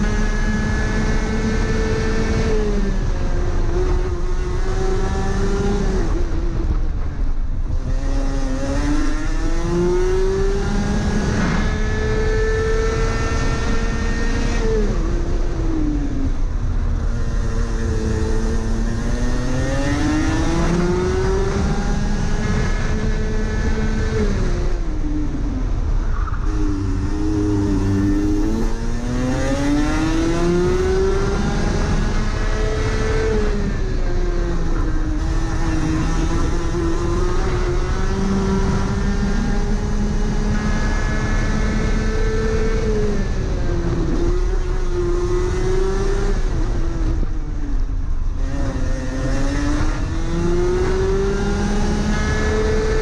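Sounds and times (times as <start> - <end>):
kart engine racing: 0.0 - 53.0.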